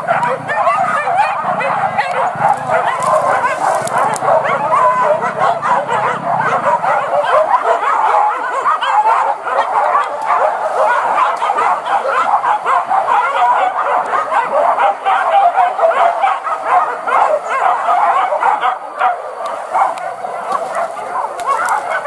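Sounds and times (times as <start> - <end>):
dogs yelping and baying: 0.0 - 22.0.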